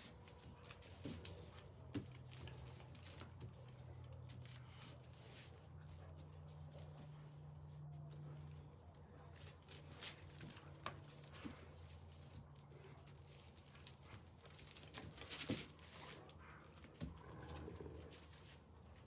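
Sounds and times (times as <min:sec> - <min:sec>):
rustles and clinks of dog toy: 0:00.0 - 0:19.0.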